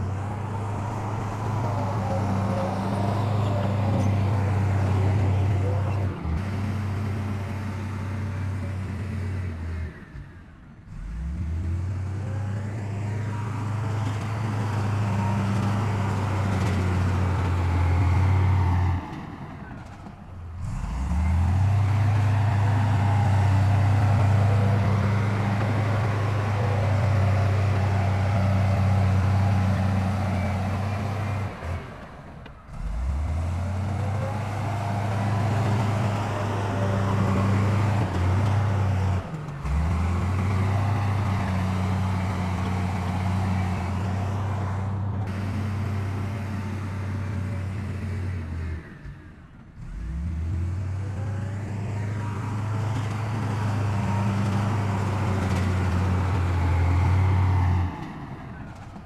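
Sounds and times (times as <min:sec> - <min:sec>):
engine revving up: 0:00.0 - 0:10.2, 0:10.9 - 0:59.0
diesel machinery deep hum: 0:00.0 - 0:59.0.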